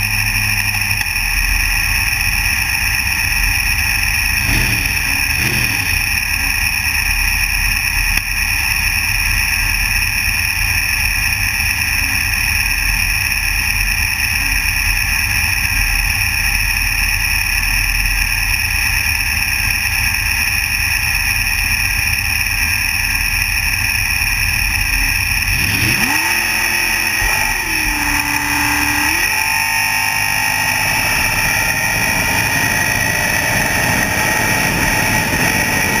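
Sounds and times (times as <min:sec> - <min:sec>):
dragster engine idling and revving: 0:00.0 - 0:36.0.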